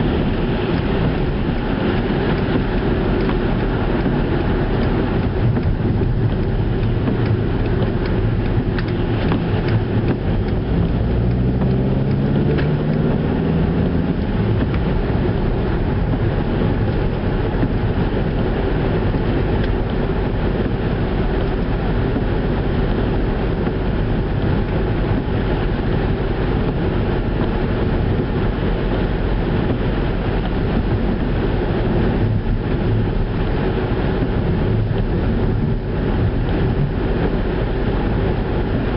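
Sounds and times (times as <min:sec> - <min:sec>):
car engine hum: 0:00.0 - 0:38.9
road and tyre noise: 0:00.0 - 0:38.9.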